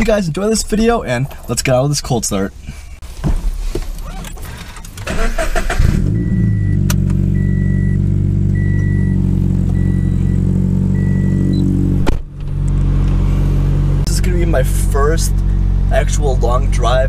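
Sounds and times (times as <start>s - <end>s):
car engine cranking and idling: 0.0s - 17.0s.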